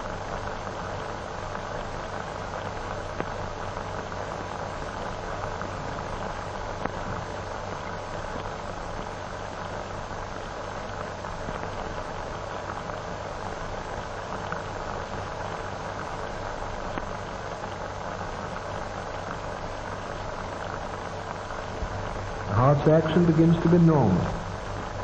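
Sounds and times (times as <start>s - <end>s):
film soundtrack hiss and hum: 0.0s - 25.0s
faint crackles: 0.4s - 25.0s.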